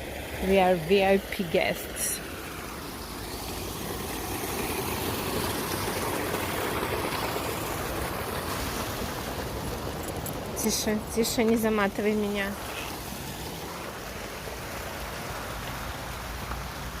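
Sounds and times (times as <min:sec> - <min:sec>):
water pouring down waterfall: 0:00.0 - 0:17.0.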